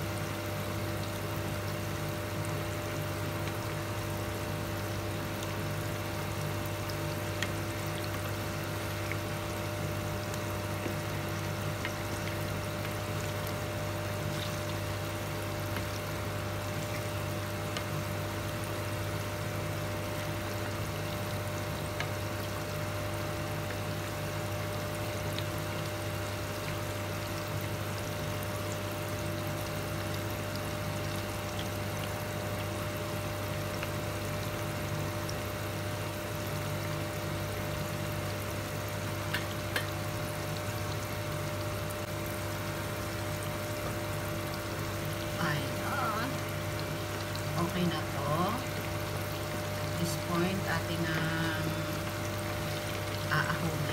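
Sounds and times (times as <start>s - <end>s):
food deep-frying in oil: 0.0s - 53.9s.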